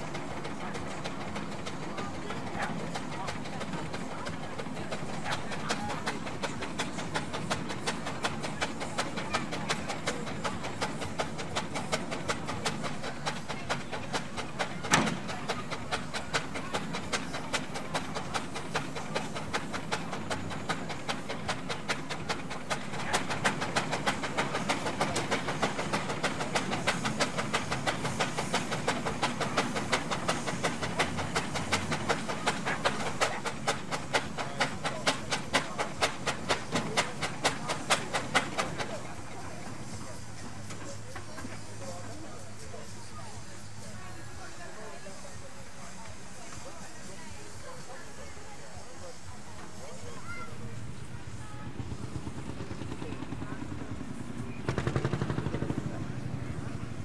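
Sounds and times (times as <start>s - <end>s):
steam engine exhaust beats: 0.0s - 57.0s.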